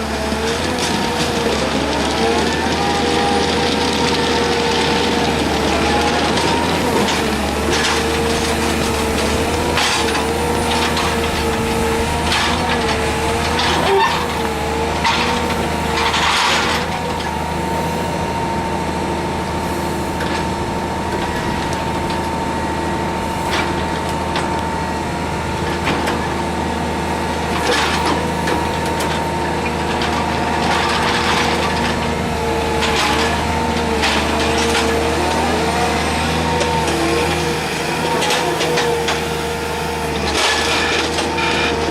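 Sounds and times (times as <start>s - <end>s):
excavator diesel drone: 0.0s - 41.9s
hydraulic whine: 0.0s - 41.9s.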